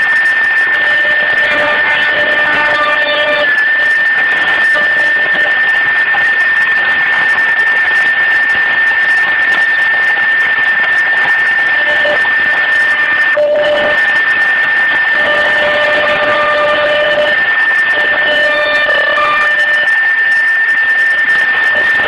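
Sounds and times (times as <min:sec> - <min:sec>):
loud cutting noise: 0:00.0 - 0:22.0
lower machine tone: 0:00.0 - 0:22.0
milling machine spindle whine: 0:00.0 - 0:22.0.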